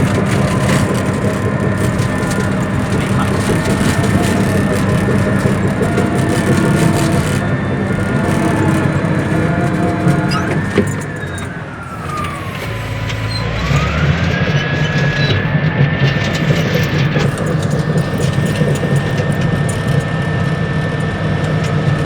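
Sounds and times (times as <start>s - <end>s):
bulldozer diesel engine whining: 0.0s - 22.0s.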